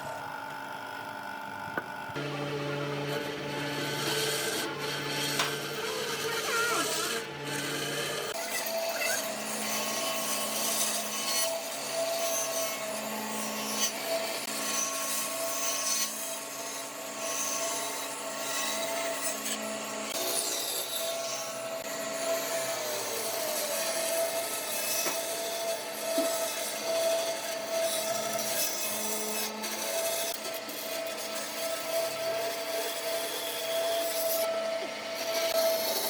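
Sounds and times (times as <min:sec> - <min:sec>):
power tool motor hum: 0:00.0 - 0:36.0
tool scraping wood: 0:03.0 - 0:36.0.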